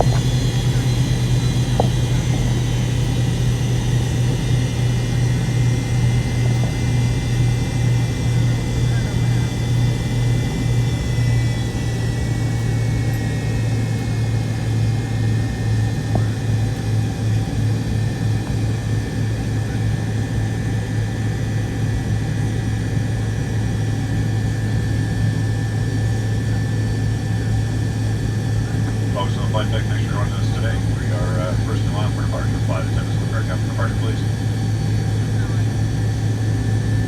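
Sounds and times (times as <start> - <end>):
jet engine high whine: 0.0 - 37.0
jet engine low hum: 0.0 - 37.0.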